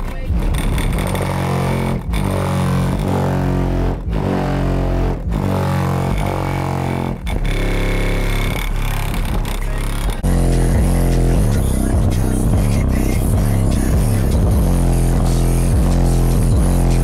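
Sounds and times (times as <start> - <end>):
bass-heavy music through car speakers: 0.0 - 17.0.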